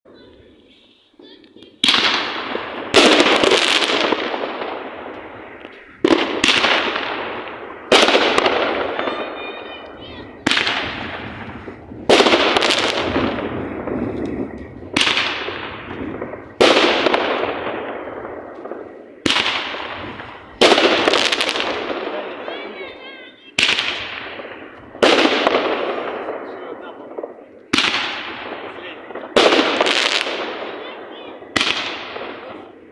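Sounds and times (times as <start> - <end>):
fireworks bangs: 0.1 - 32.9.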